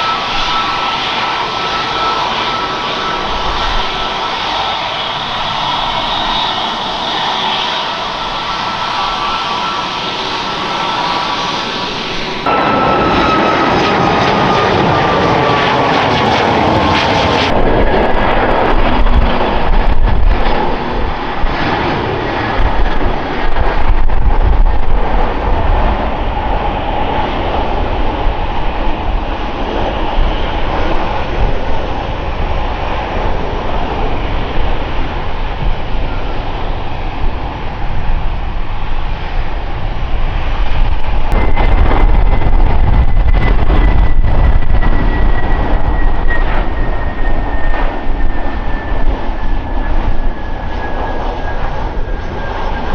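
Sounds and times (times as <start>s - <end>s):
airliner engines rushing: 0.0s - 52.9s
high engine whine: 0.0s - 52.9s.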